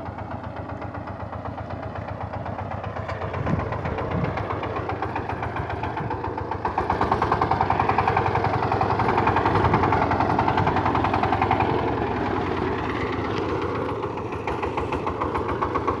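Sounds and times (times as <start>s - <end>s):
diesel tiller engine pulsing: 0.0s - 16.0s.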